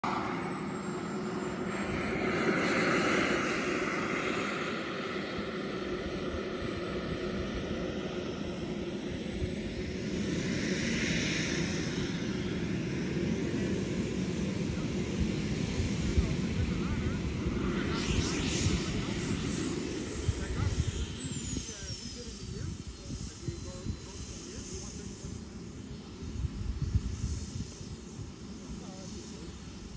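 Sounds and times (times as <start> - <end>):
jet turbine hiss and whine: 0.0 - 29.9.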